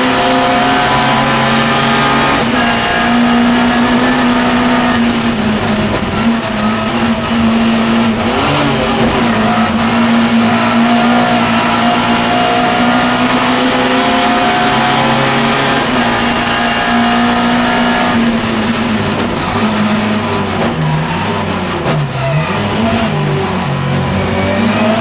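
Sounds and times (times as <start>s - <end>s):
race car engine revving high: 0.0s - 25.0s
road and wind noise: 0.0s - 25.0s.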